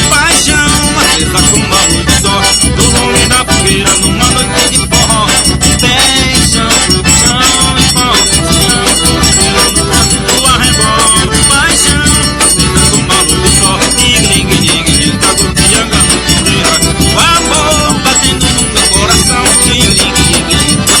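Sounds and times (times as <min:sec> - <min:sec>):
dance music: 0:00.0 - 0:21.0.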